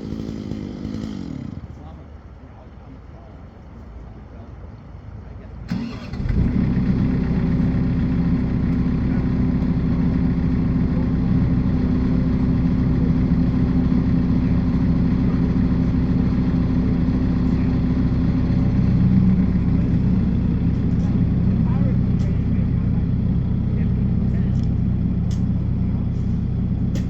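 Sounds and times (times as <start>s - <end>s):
diesel engine idling: 4.8s - 27.0s.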